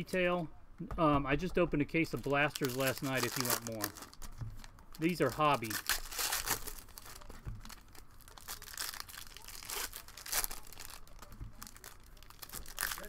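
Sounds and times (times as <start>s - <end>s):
foil wrappers crinkling and tearing: 2.1s - 13.0s.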